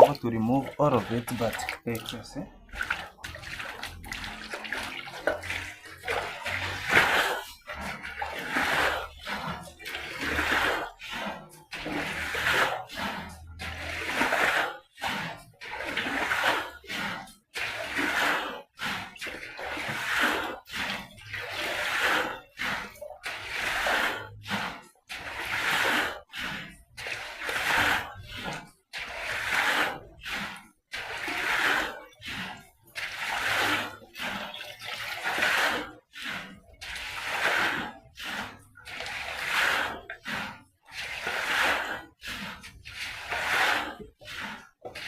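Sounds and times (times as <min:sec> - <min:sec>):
water splashing by hand: 0:00.0 - 0:45.0.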